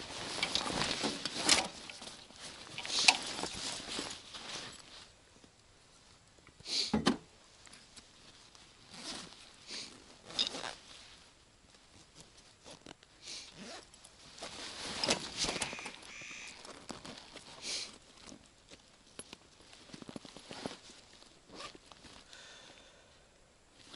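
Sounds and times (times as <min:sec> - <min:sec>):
crunches and rustles on forest floor: 0:00.0 - 0:06.7, 0:07.4 - 0:23.1, 0:23.7 - 0:23.9.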